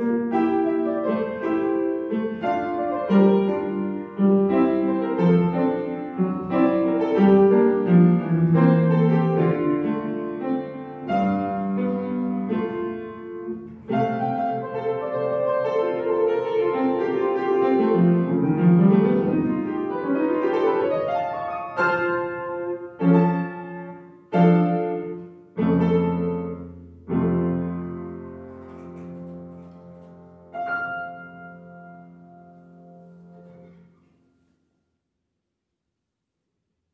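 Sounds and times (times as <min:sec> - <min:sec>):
upright piano playing: 0:00.0 - 0:34.3.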